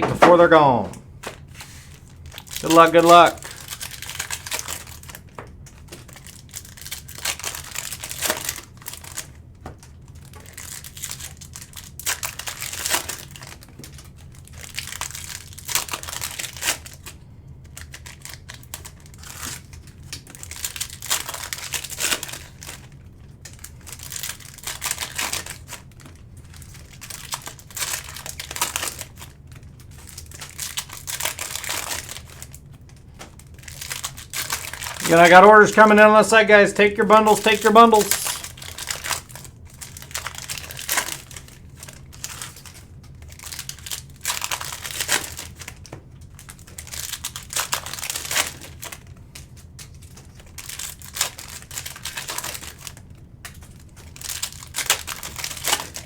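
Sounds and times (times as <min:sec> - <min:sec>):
plastic and foil wrapping tearing: 0:01.5 - 0:36.0, 0:37.2 - 0:56.0.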